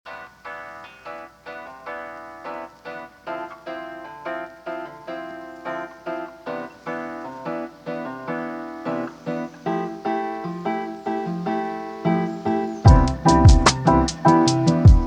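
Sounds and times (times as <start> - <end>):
piano notes: 0.1 - 15.0
plucked guitar: 0.1 - 15.0.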